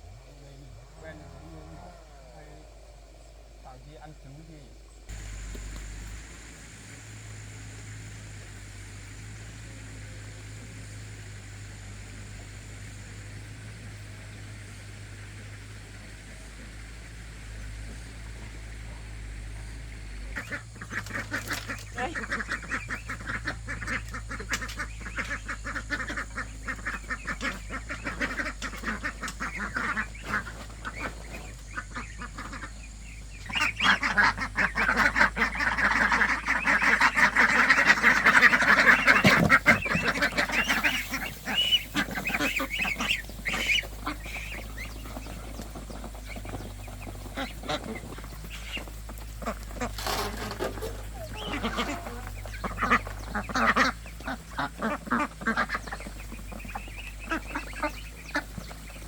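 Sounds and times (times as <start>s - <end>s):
farm birds calling: 0.0s - 59.0s.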